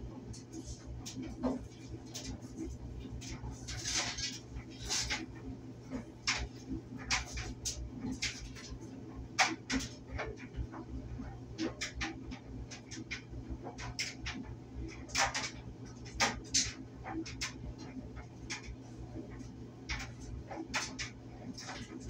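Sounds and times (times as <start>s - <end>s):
clothes dryer motor hum: 0.0s - 22.0s
load tumbling in dryer drum: 0.1s - 22.0s.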